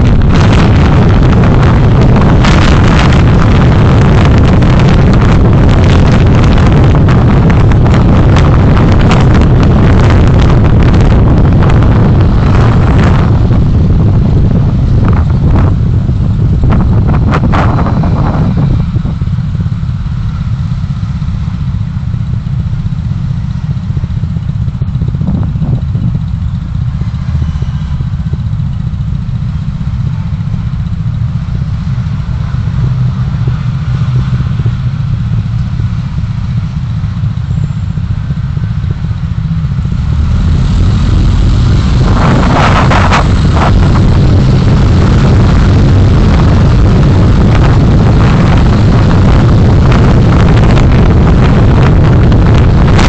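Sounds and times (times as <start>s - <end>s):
engine and road noise: 0.0s - 53.0s.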